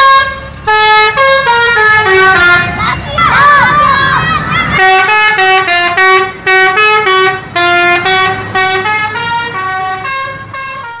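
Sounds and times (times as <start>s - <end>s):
musical air horn playing a tune: 0.0s - 2.8s, 4.8s - 11.0s.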